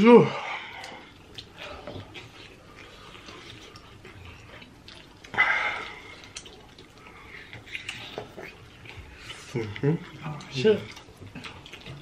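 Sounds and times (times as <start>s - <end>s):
chewing and lip smacking: 0.6s - 12.0s.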